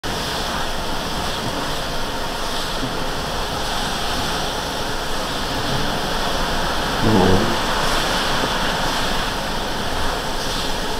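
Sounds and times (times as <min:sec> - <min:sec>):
tyres hissing on wet road: 0:00.1 - 0:10.9.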